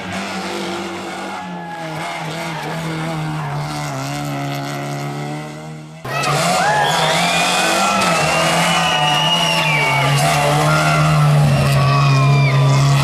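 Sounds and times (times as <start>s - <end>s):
rally car engine running hard: 0.0s - 13.0s
second car engine: 0.0s - 13.0s.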